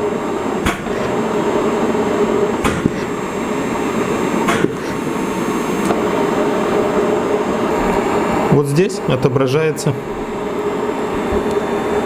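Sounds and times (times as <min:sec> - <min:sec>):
machine blower running: 0:00.0 - 0:12.0.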